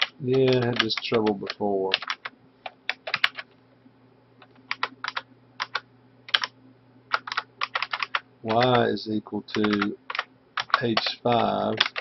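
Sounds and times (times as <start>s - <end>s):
computer keyboard keystrokes: 0.0s - 3.5s, 4.4s - 6.5s, 7.1s - 8.8s, 9.5s - 12.0s
faint low hum: 0.0s - 12.0s.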